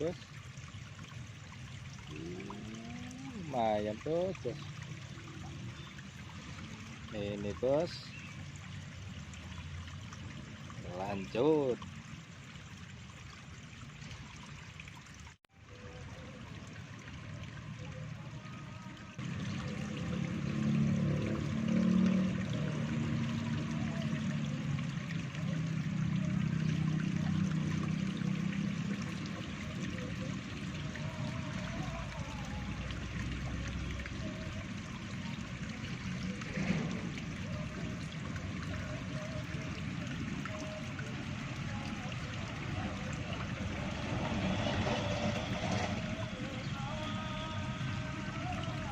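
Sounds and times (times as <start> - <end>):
flowing water: 0.0 - 48.9.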